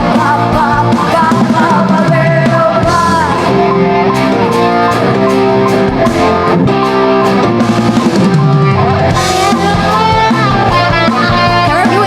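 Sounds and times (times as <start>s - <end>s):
drum kit: 0.0s - 12.0s
electric guitar: 0.0s - 12.0s.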